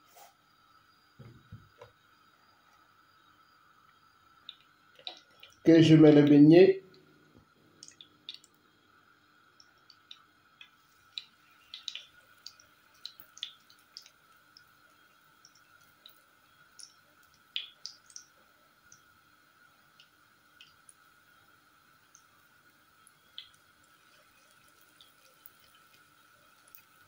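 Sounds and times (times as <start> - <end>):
faint steady hum: 0.0 - 27.0
batter frying in oil: 0.5 - 5.7, 6.5 - 27.0.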